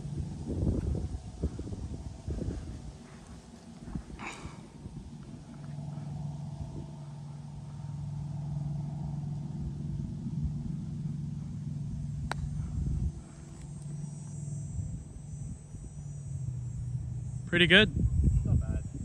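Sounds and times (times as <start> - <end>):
golf cart humming: 0.0 - 19.0.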